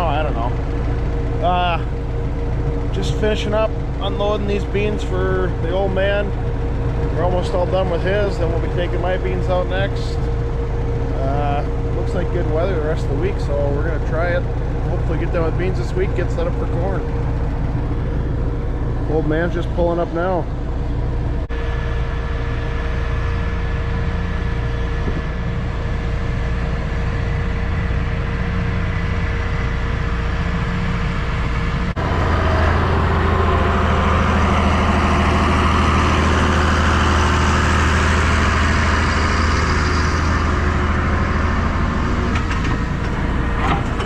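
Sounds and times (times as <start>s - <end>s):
combine harvester engine drone: 0.0s - 44.0s.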